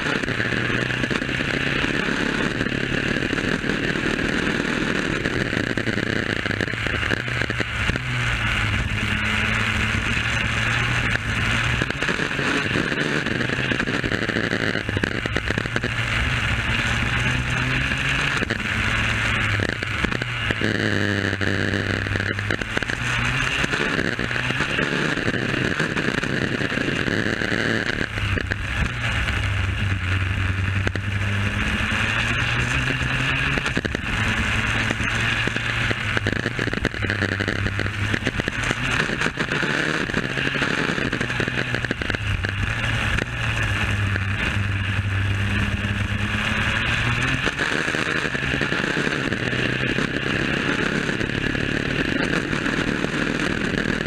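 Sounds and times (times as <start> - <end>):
two-stroke kart engine revving: 0.0 - 54.0.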